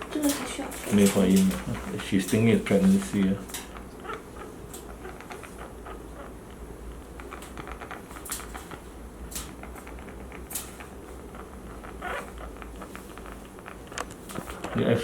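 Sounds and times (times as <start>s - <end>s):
guinea pig laboured breathing: 1.6s - 15.0s.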